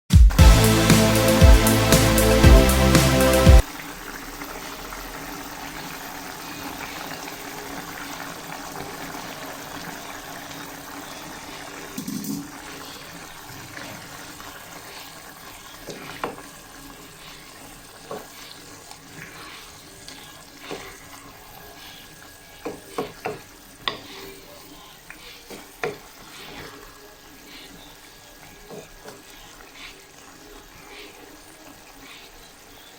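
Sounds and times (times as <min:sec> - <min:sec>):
food sizzling in a pan: 0:00.5 - 0:32.9.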